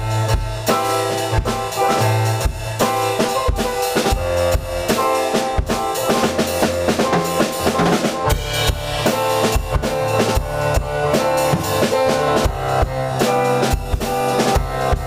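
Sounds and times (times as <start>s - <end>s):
drum beat: 0.0s - 15.0s
keyboard chords: 0.0s - 15.0s.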